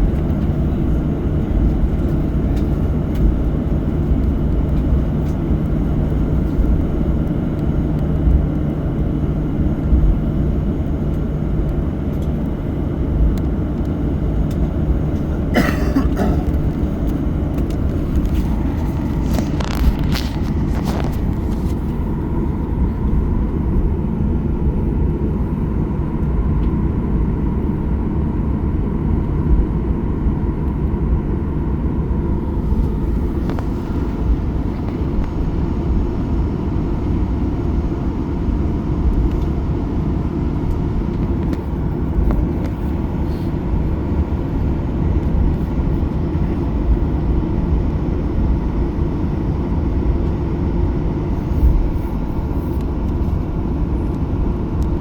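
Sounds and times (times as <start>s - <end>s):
aircraft engines at low power: 0.0s - 55.0s.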